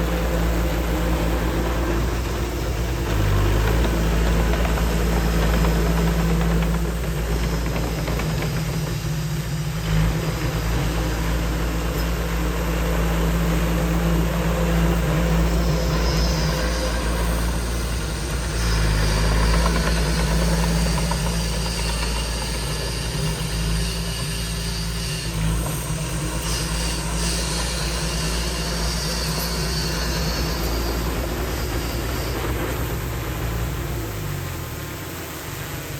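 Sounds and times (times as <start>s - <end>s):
diesel engine rumbling: 0.0s - 35.9s.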